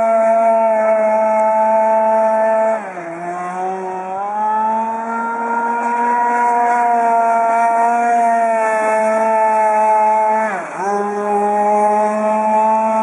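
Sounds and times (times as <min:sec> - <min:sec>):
model boat engine whine: 0:00.0 - 0:13.0.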